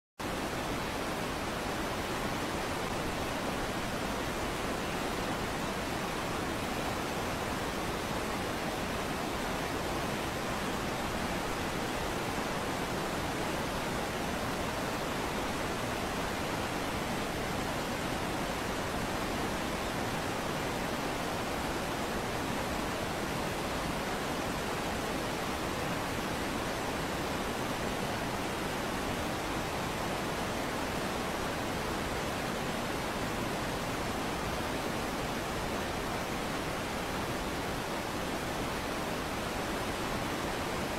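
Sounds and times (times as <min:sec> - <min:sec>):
whitewater rushing: 0:00.2 - 0:40.9.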